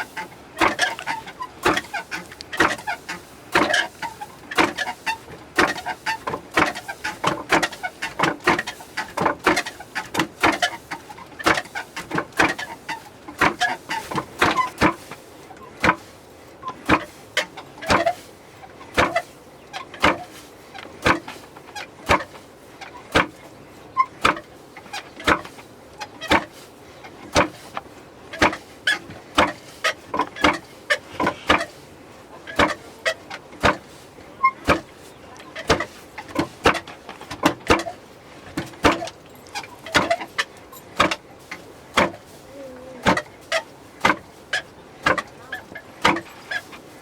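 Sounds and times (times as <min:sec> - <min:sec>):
hand mill grinding knocks: 0:00.0 - 0:15.2, 0:15.8 - 0:16.1, 0:16.7 - 0:18.2, 0:18.9 - 0:22.4, 0:23.1 - 0:23.4, 0:24.0 - 0:25.6, 0:26.2 - 0:26.6, 0:27.3 - 0:31.8, 0:32.5 - 0:35.0, 0:35.6 - 0:42.3, 0:43.0 - 0:46.7.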